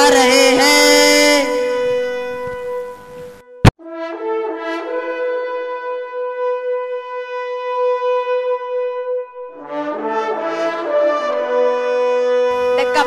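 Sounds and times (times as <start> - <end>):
brass horn long note: 0.0 - 13.0.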